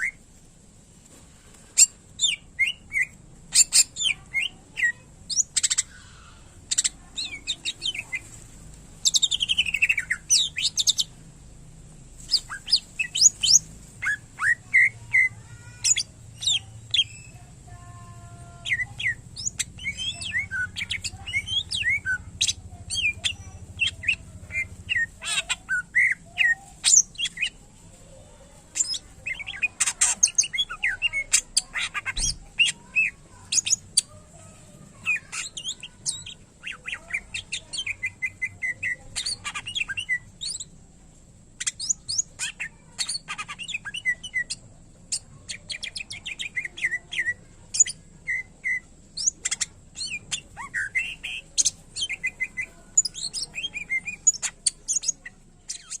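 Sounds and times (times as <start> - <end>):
bird singing varied chirps and trills: 1.8 - 11.4, 12.2 - 40.8, 41.6 - 56.0.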